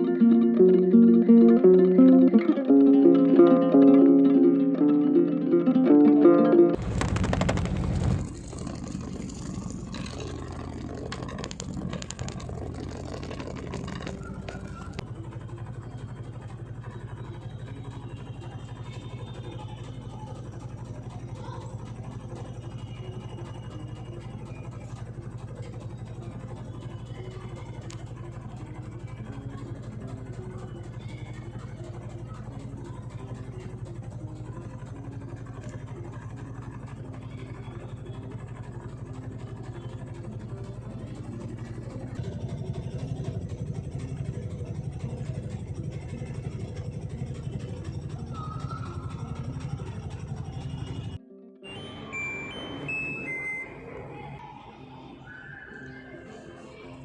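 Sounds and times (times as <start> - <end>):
washing machine motor hum: 6.8 - 54.4.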